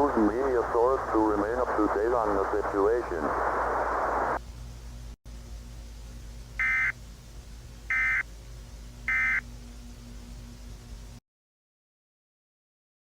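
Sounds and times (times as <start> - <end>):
low hiss and hum: 0.0 - 11.2.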